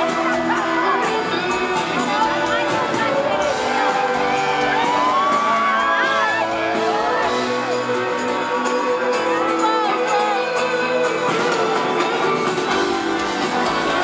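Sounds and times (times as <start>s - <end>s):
audience screaming and whooping: 0.0s - 14.0s
live band music: 0.0s - 14.0s.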